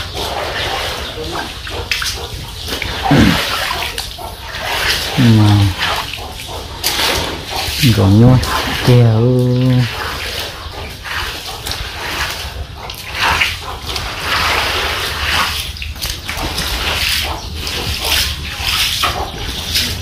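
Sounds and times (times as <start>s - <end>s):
floodwater splashing and sloshing: 0.0s - 20.0s.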